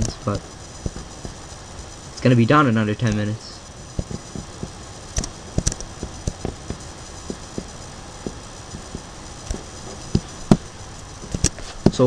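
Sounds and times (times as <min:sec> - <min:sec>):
room noise: 0:00.0 - 0:12.0.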